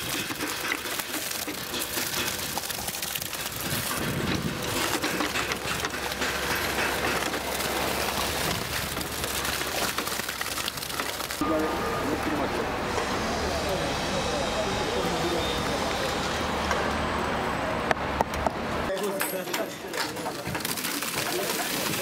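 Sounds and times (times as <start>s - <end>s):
wet concrete pouring: 0.0s - 16.5s, 18.9s - 22.0s.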